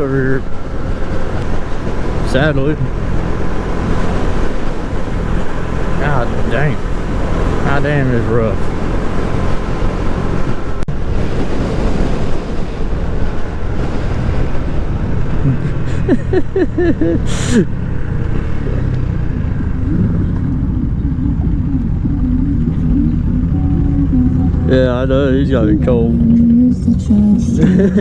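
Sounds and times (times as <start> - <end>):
motorcycle engine running: 0.0 - 28.0
wind rush on microphone: 0.0 - 28.0.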